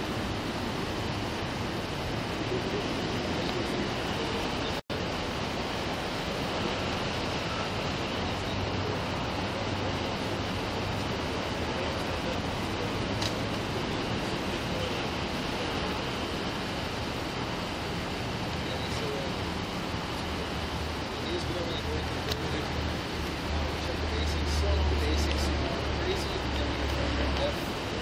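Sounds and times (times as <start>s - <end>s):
passing traffic: 0.0s - 28.0s
wind: 0.0s - 28.0s.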